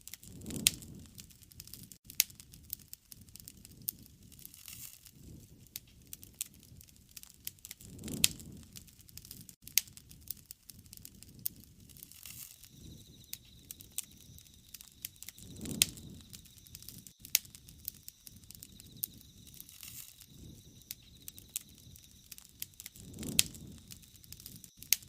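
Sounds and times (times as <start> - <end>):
wood fire crackling: 0.0 - 25.0
low flame rumble: 0.2 - 4.4, 5.2 - 25.0.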